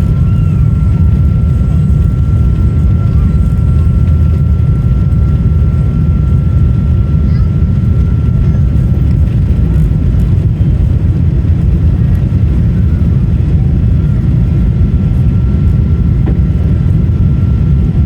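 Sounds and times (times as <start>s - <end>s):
jet engines and airflow rumbling: 0.0s - 18.0s
thin steady whine: 0.0s - 18.0s.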